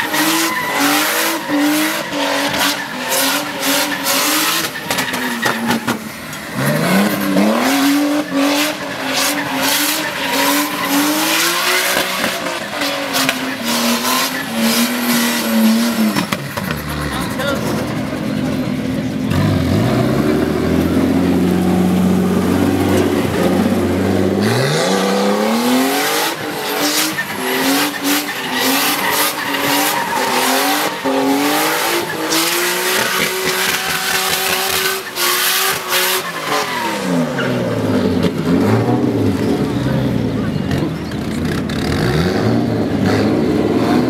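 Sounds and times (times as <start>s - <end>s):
tyres screeching: 0.0s - 38.2s
car engine revving: 0.0s - 44.0s.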